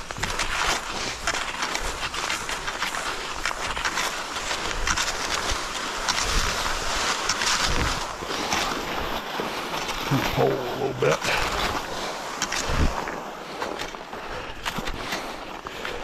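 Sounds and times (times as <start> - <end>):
ski poles planting in snow: 0.0 - 16.0
skis scraping on snow tracks: 0.0 - 16.0.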